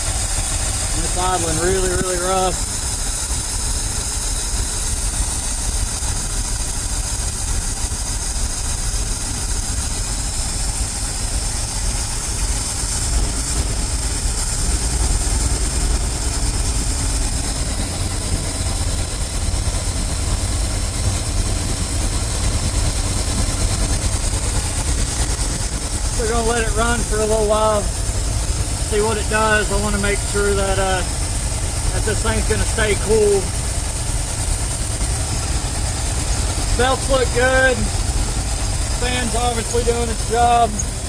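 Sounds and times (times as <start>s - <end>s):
truck engine idling rough: 0.0s - 41.0s.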